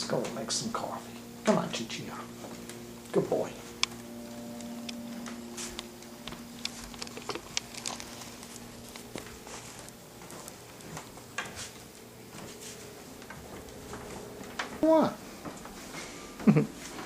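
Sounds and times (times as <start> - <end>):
light pattering footsteps: 0.0 - 17.0
steady low hum: 0.0 - 17.0.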